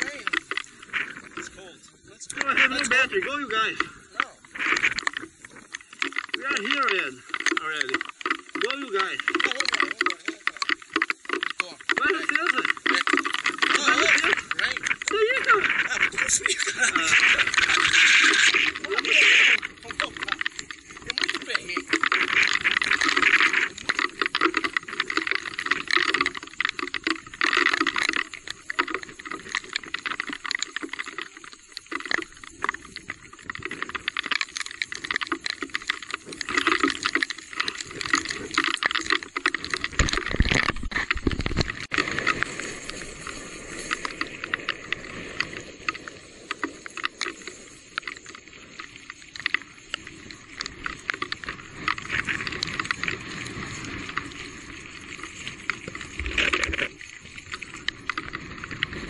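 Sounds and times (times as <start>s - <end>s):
bike rattling and clattering: 0.0s - 1.8s, 2.4s - 59.0s
tyres splashing: 0.0s - 59.0s.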